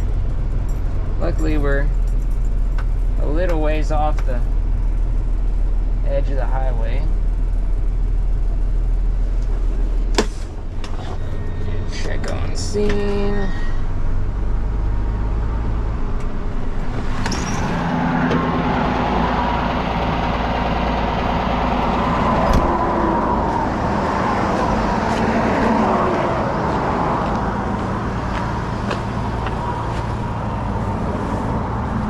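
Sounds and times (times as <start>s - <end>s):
highway traffic: 0.0s - 32.0s.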